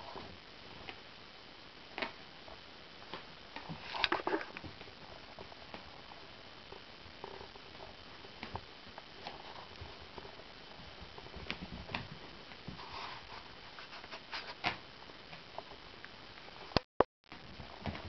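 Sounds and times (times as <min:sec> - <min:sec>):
steady hiss: 0:00.0 - 0:16.8.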